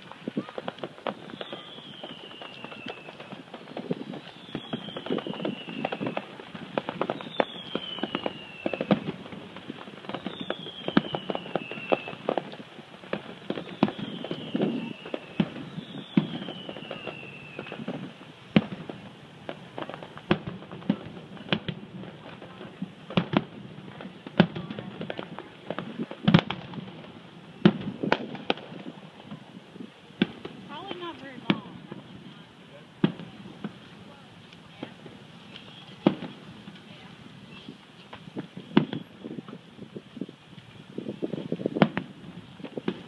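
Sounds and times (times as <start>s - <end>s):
distant fireworks popping and banging: 0.0s - 43.0s.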